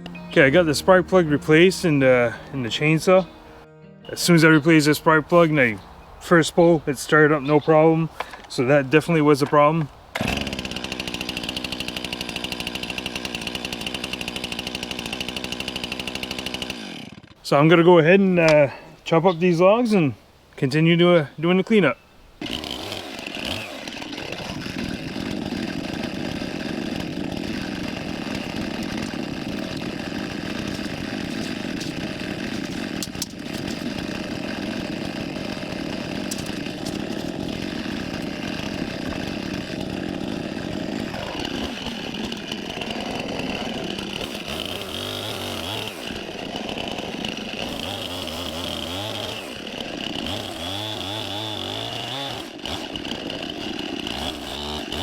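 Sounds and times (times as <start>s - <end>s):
chainsaw cutting logs: 0.0s - 19.8s, 21.4s - 55.0s.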